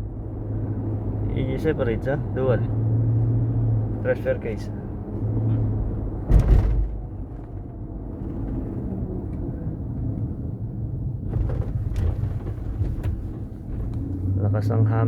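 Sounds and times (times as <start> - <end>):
drivetrain hum and road rumble: 0.0 - 15.0.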